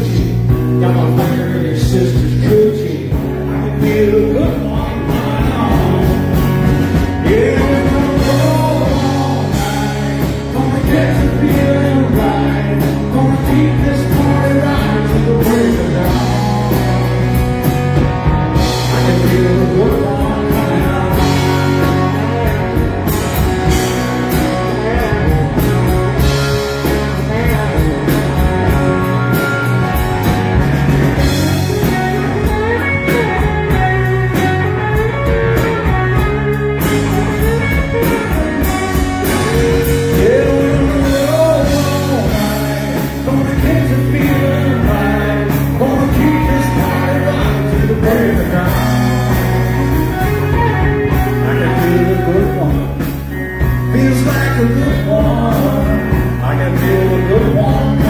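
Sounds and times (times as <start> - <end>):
drum kit: 0.0 - 58.0
electric bass: 0.0 - 58.0
electric guitars: 0.0 - 58.0.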